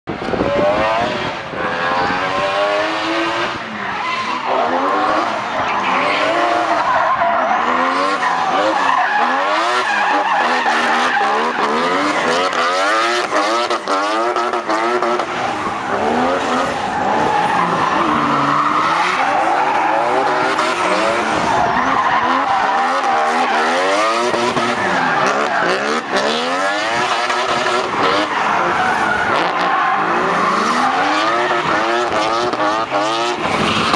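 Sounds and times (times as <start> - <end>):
car engine revving hard: 0.3 - 33.9.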